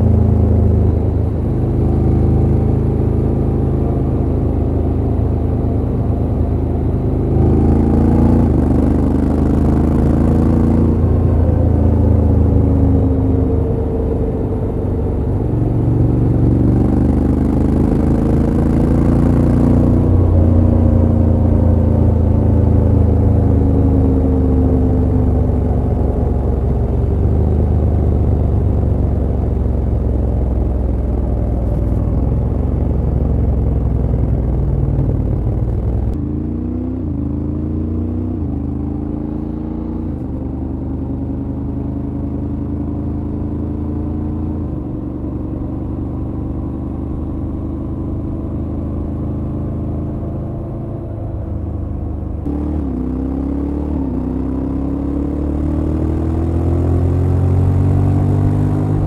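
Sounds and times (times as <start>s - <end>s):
motorcycle engine accelerating through gears: 0.0s - 59.0s.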